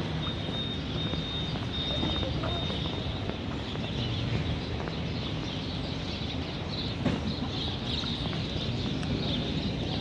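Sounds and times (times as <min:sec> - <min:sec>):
city street background noise: 0:00.0 - 0:10.0.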